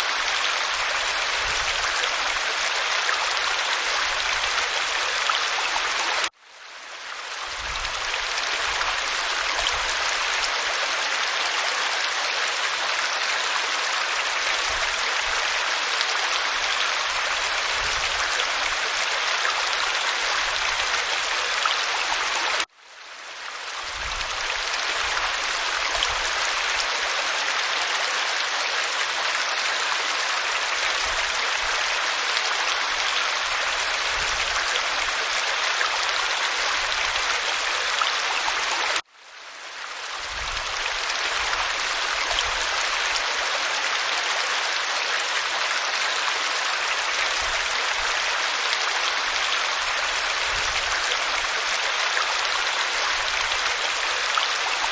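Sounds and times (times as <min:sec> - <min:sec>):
waterfall rushing over rock: 0:00.0 - 0:06.3, 0:07.3 - 0:22.7, 0:23.7 - 0:39.0, 0:40.0 - 0:54.9.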